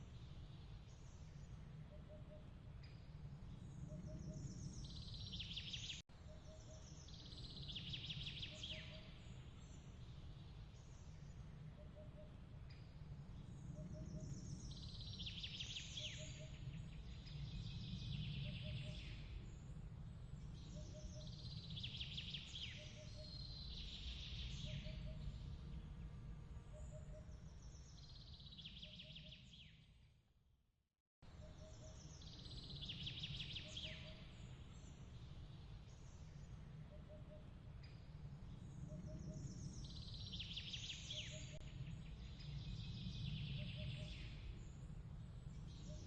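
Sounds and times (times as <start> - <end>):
songbird trills: 0.0 - 19.8, 20.4 - 25.6, 26.7 - 29.8, 31.3 - 46.0.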